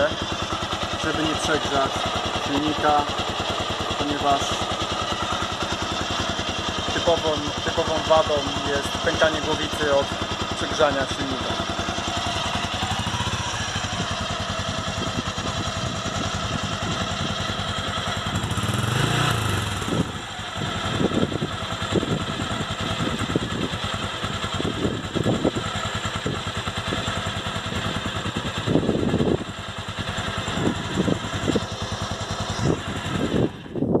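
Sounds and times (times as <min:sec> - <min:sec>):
engine knocks: 0:00.0 - 0:33.9
motorcycle engine idling: 0:00.0 - 0:34.0.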